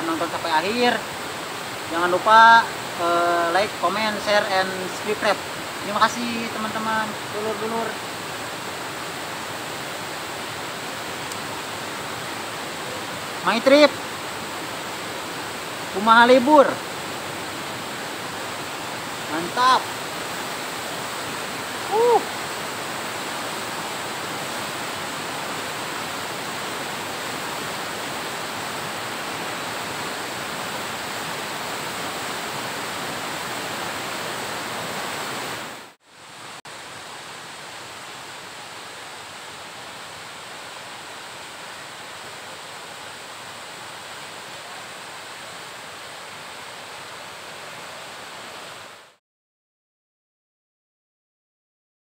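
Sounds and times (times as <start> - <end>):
waterfall rushing: 0.0 - 49.2.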